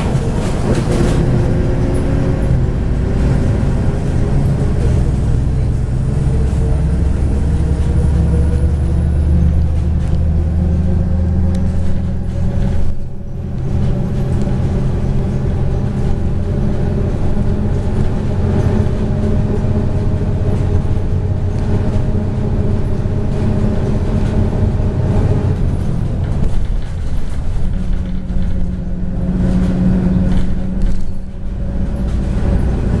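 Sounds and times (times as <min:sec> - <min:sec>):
bus diesel engine running: 0:00.0 - 0:33.0
road noise: 0:00.0 - 0:33.0.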